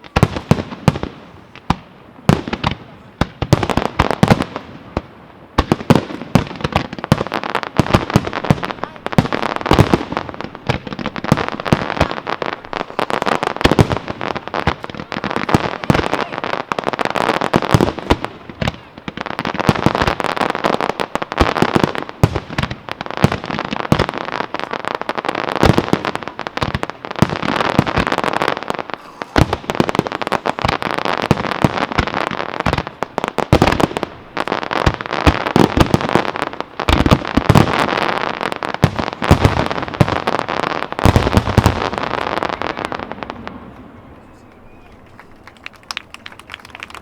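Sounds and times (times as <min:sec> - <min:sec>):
deep firework booms: 0:00.0 - 0:44.1
fireworks bangs and crackling: 0:00.0 - 0:47.0.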